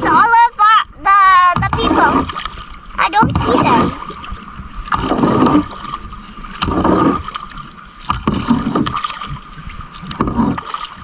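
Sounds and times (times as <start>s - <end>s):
paddle splashing in water: 0.0s - 11.0s.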